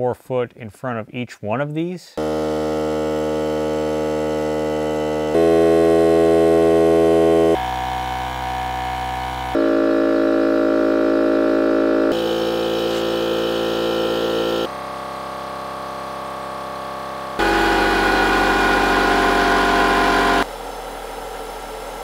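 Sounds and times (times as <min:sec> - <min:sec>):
air compressor motor hum: 0:02.2 - 0:22.0.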